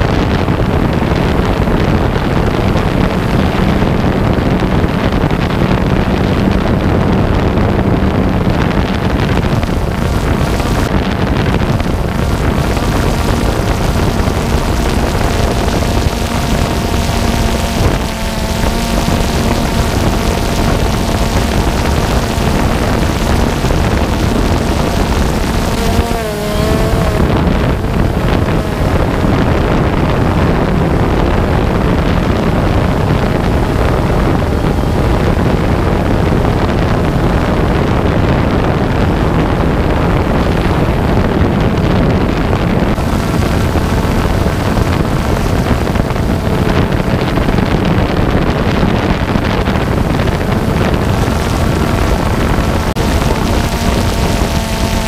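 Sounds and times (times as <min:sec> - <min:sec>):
drone propellers humming: 0:00.0 - 0:55.0
wind noise on microphone: 0:00.0 - 0:55.0.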